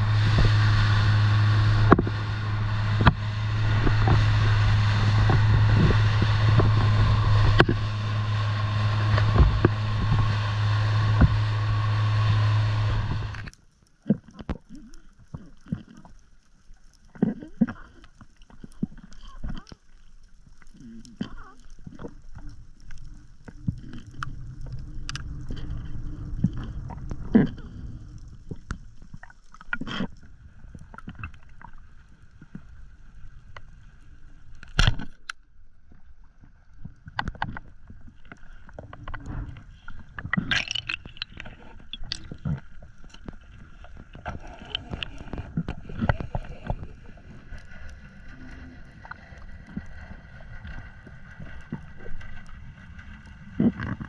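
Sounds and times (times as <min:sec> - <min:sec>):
faint steady whine: 0:00.0 - 0:54.0
low underwater rumble: 0:00.0 - 0:54.0.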